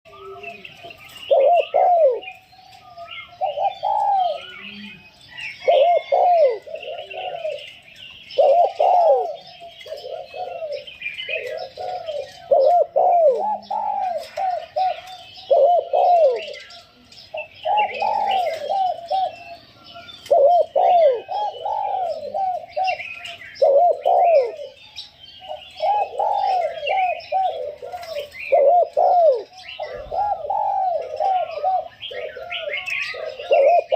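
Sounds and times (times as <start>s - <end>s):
small birds chirping: 0.0s - 33.9s
dove cooing: 0.1s - 33.9s.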